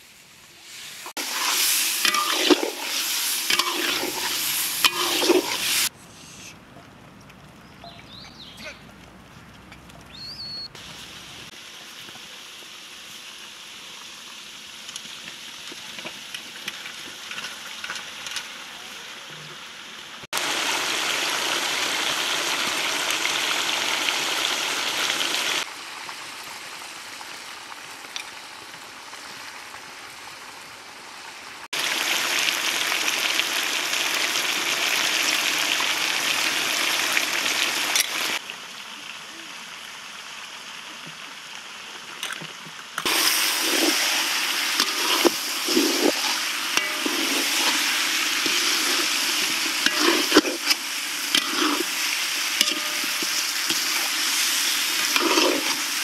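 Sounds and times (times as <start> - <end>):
potatoes sizzling in oil: 0.1 - 5.9, 10.1 - 56.0.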